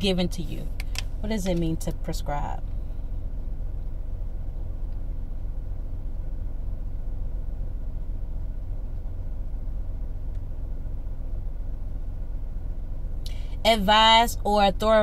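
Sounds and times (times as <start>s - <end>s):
faint steady hum: 0.0s - 15.0s
low rumble: 0.0s - 15.0s.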